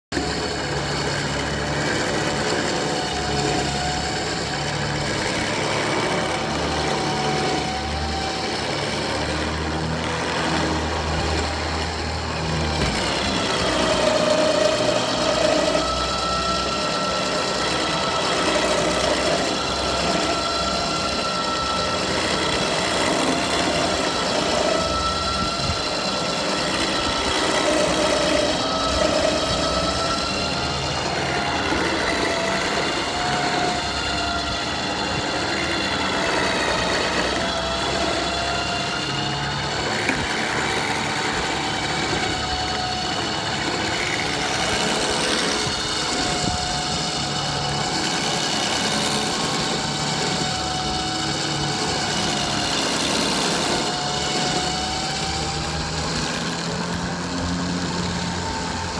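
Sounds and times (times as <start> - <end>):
tractor engine running at low speed: 0.0 - 58.9.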